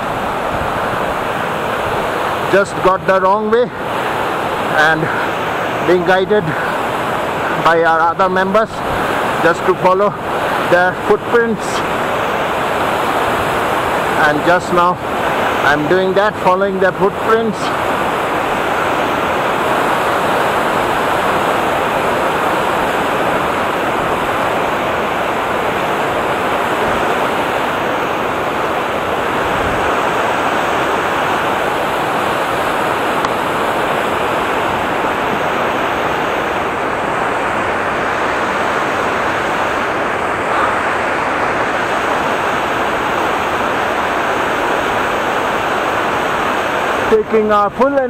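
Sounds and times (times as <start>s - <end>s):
river rushing over rocks: 0.0s - 48.0s.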